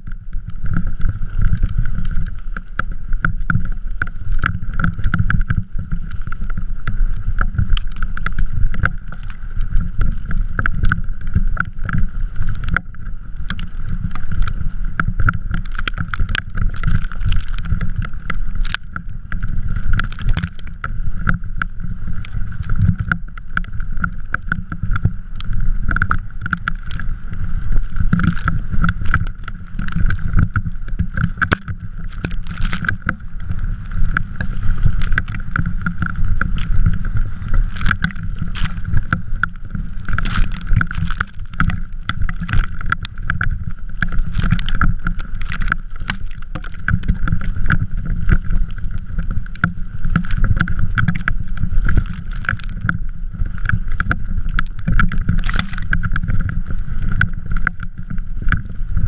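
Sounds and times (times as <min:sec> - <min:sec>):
wind buffeting microphone: 0:00.0 - 0:58.8
trike rumbling over snow: 0:00.0 - 0:59.0.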